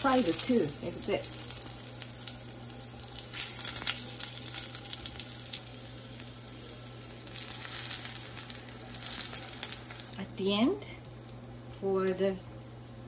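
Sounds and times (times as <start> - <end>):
frying hiss with crackles: 0.0 - 13.0.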